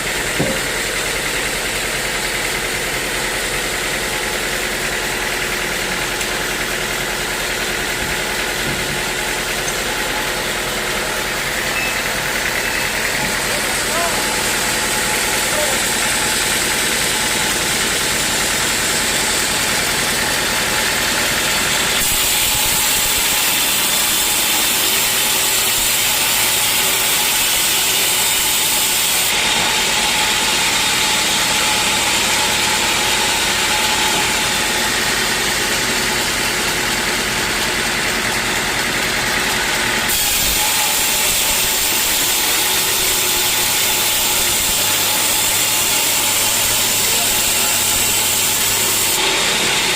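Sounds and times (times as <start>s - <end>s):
sawmill engine drone: 0.0s - 49.9s.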